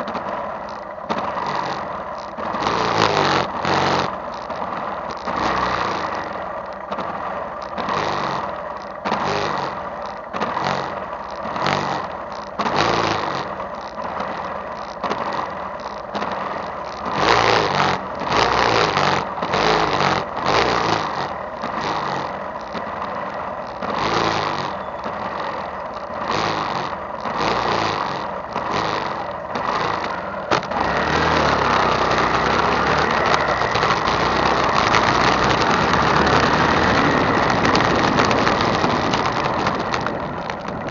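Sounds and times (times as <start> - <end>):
motorcycle engine idling: 0.0 - 40.9
motorcycle riding off: 0.0 - 40.9.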